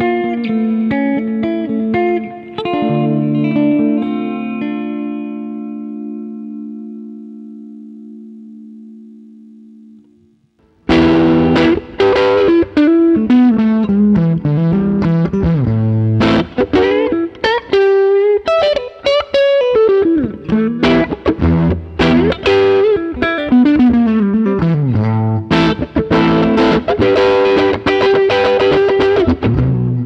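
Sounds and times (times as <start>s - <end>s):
electric guitar solo: 0.0s - 30.0s.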